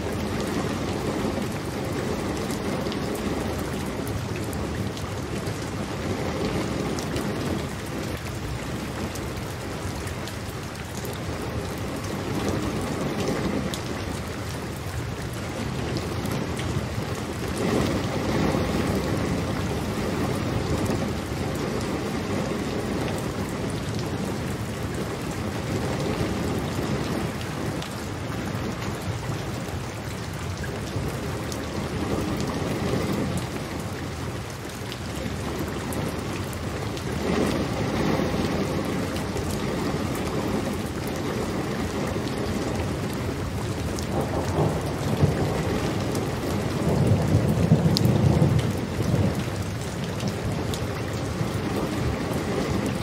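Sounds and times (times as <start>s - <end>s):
thunder rumbling: 0.0s - 10.2s, 11.1s - 29.9s, 30.6s - 34.4s, 35.2s - 53.0s
heavy rainfall: 0.0s - 53.0s.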